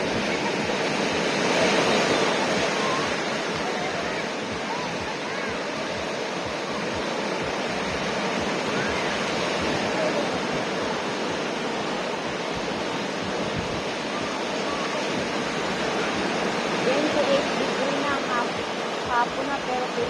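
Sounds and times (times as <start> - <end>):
faint distant voices: 0.0 - 20.0
ocean surf breaking on beach: 0.0 - 20.0.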